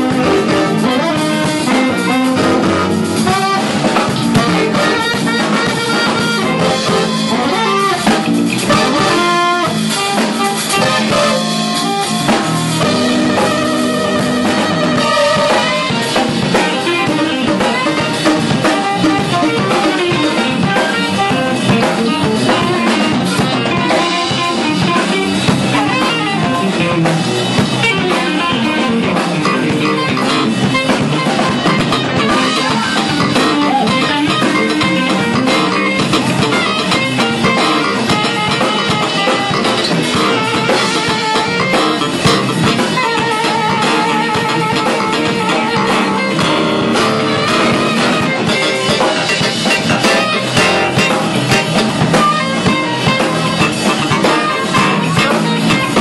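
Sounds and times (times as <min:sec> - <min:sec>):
drum kit: 0:00.0 - 0:56.0
electric guitars: 0:00.0 - 0:56.0
saxophone holding notes: 0:00.0 - 0:56.0.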